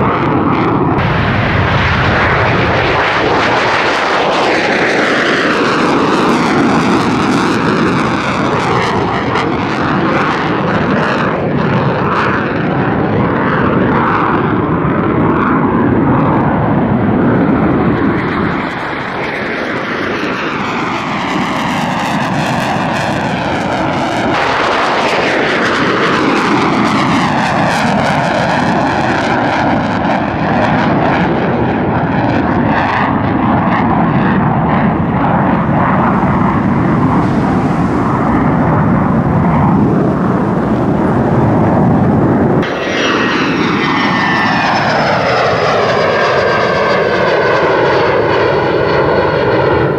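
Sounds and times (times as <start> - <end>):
jet aircraft flying past: 0.0 - 49.9.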